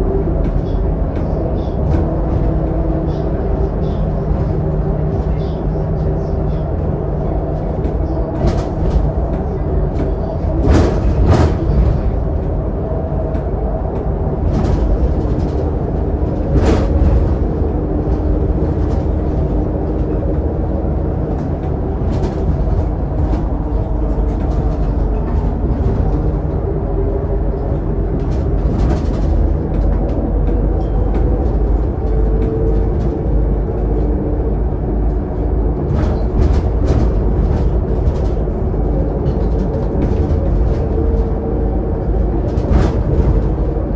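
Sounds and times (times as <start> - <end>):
bus body rattles: 0.0 - 43.9
bus engine and road rumble: 0.0 - 43.9.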